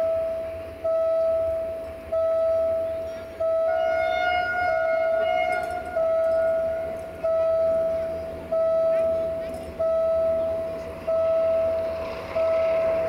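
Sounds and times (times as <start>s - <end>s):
higher steady tone: 0.0s - 13.0s.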